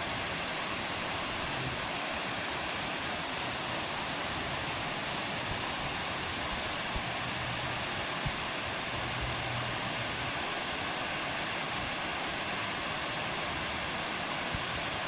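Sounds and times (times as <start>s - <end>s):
river rushing: 0.0s - 15.0s
water pouring from dam: 0.0s - 15.0s.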